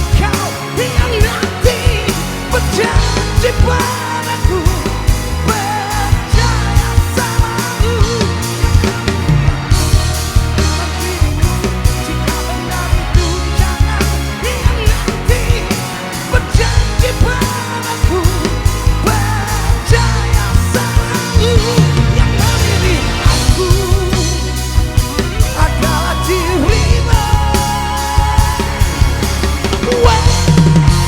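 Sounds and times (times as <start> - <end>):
drum kit beat: 0.0 - 31.0
lead melody with vibrato: 0.0 - 31.0
rock band playing ballad: 0.0 - 31.0.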